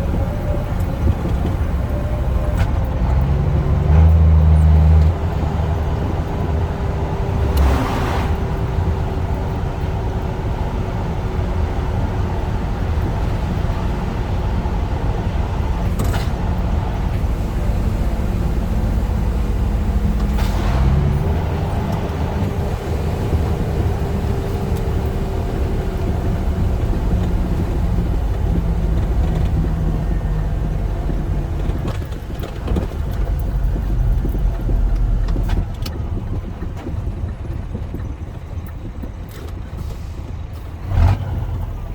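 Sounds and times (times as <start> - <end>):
road noise: 0.0 - 41.9
truck engine running: 0.0 - 41.9.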